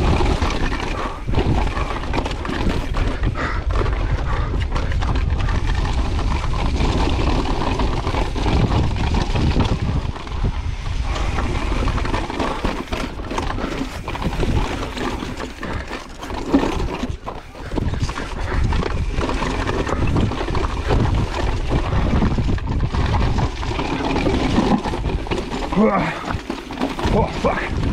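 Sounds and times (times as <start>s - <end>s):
bike rattling over bumps: 0.0s - 27.9s
tyres on loose rock: 0.0s - 27.9s
wind rumble on microphone: 0.0s - 27.9s.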